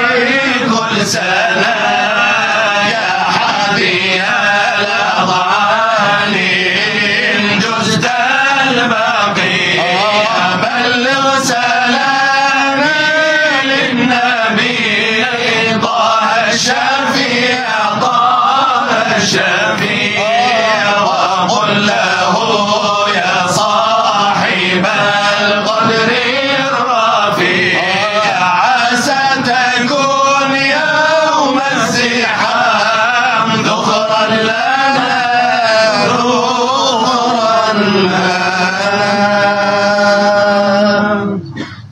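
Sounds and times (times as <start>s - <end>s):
men chanting together: 0.0s - 41.4s.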